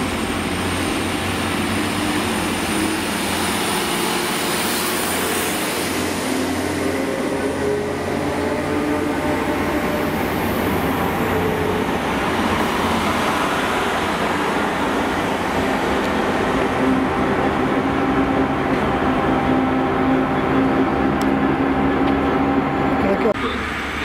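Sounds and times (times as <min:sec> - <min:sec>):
train engine hum: 0:00.0 - 0:24.0
train rumbling past: 0:00.0 - 0:24.0.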